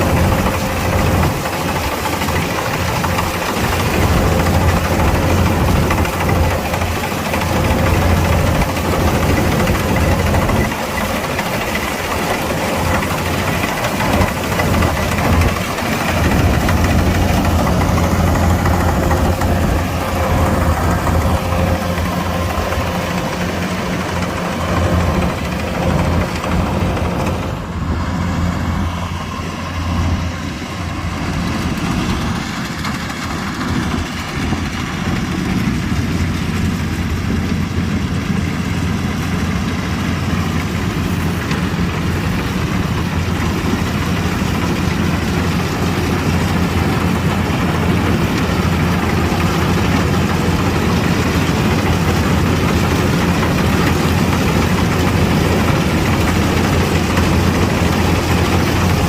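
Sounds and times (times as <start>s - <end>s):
diesel engine drone: 0.0s - 59.0s
machinery whine: 0.0s - 59.0s.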